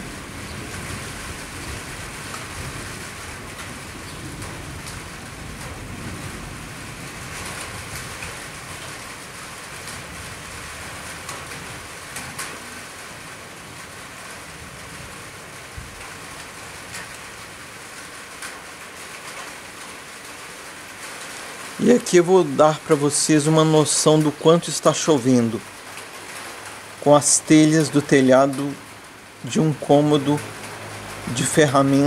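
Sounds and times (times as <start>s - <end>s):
light rain on rooftops: 0.0s - 32.0s.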